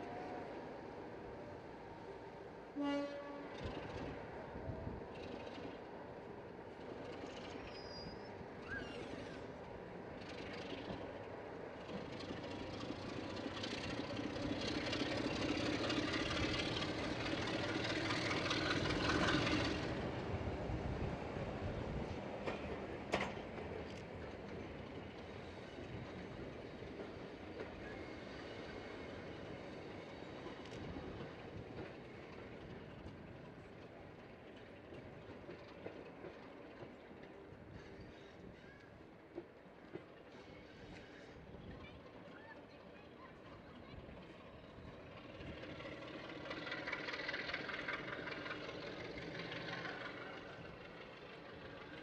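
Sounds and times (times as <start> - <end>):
train wheels rolling on rails: 0.0 - 52.0.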